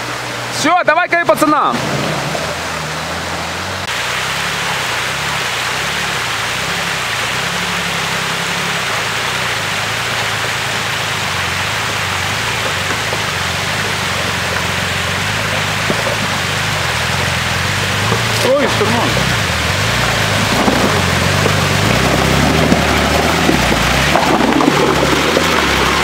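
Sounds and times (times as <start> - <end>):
vehicle engine at low revs: 0.0 - 26.0
water running over rocks: 0.0 - 26.0.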